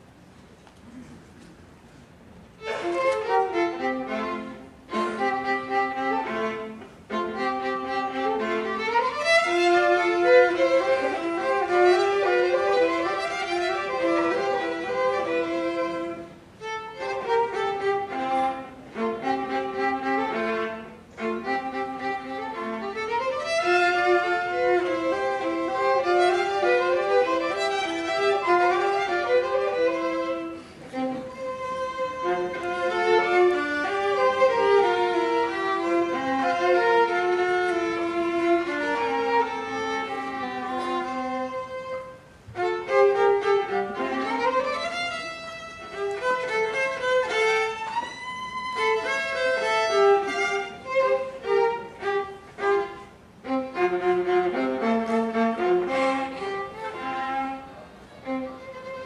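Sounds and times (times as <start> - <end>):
two violins playing a duet: 2.3 - 59.0.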